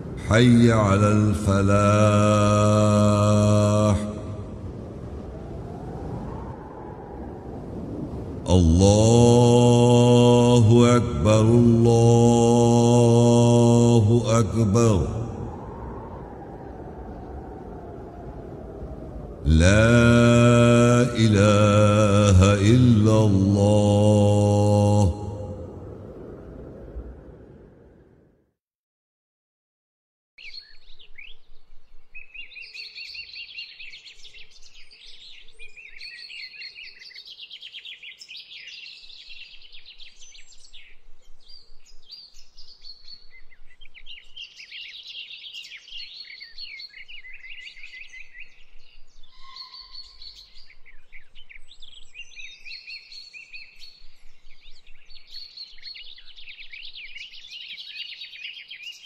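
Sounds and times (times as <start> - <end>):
birds chirping and trilling: 0.0 - 27.7, 30.4 - 59.0.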